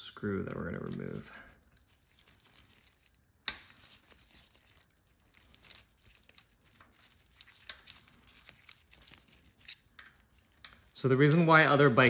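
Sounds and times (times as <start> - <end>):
allen key clicking and scraping: 0.0 - 12.0.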